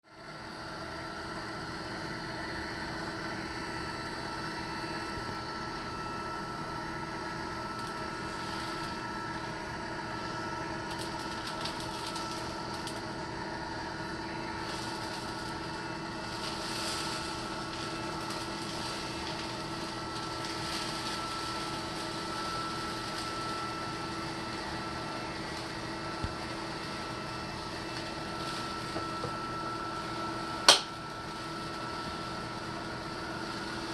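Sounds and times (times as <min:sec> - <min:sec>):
motor humming: 0:02.4 - 0:33.9.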